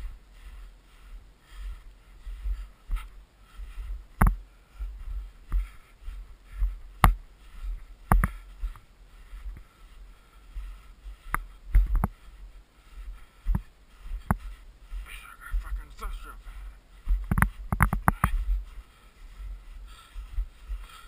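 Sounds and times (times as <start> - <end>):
footsteps crunching through snow: 0.0 - 21.0.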